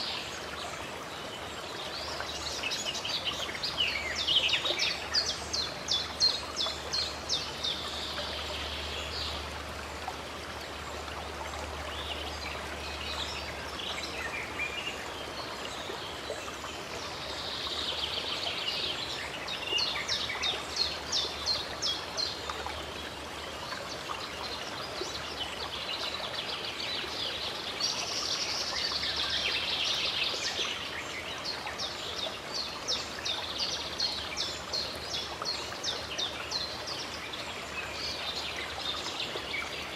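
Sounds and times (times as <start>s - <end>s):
songbirds singing: 0.0s - 39.9s
stream flowing: 0.0s - 39.9s.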